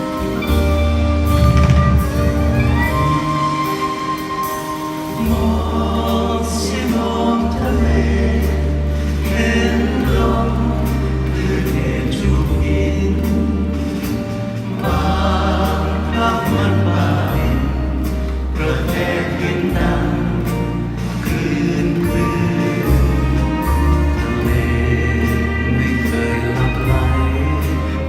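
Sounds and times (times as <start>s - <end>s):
live band music: 0.0s - 28.0s
voices singing along: 2.0s - 28.0s.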